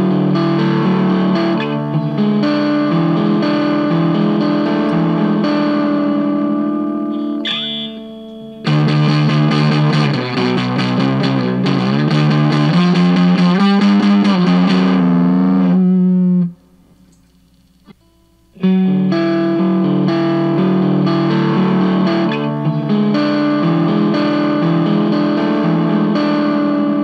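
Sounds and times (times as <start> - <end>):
fuzz electric guitar riff: 0.0 - 17.0, 18.0 - 27.0.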